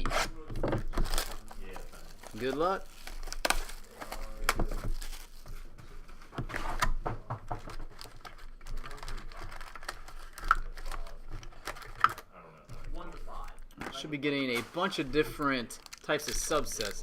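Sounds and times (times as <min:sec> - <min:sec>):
packaging crinkling and tearing: 0:00.7 - 0:05.7, 0:07.6 - 0:17.0.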